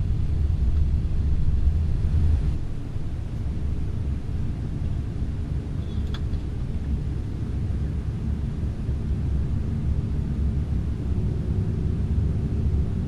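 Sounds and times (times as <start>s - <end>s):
low rumble inside aircraft cabin: 0.0s - 13.0s.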